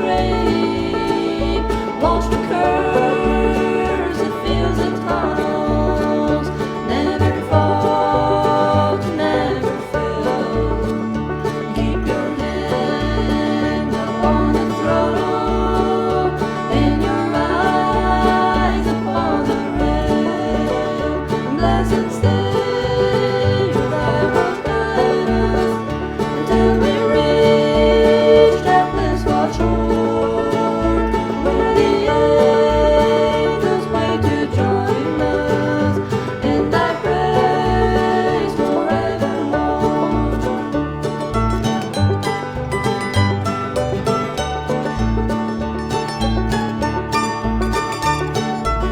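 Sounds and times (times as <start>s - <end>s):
bluegrass gospel music: 0.0s - 48.9s.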